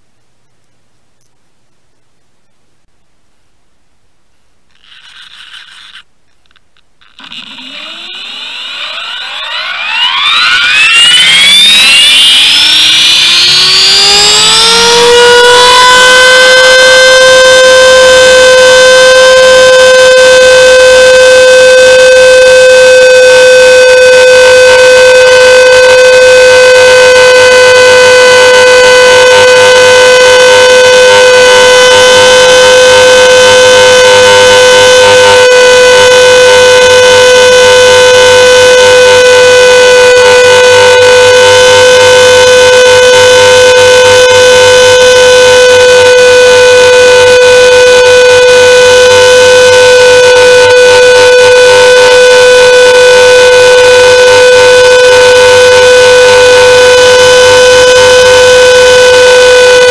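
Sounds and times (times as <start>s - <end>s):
rc helicopter motor whine: 4.8s - 6.1s, 7.0s - 59.9s.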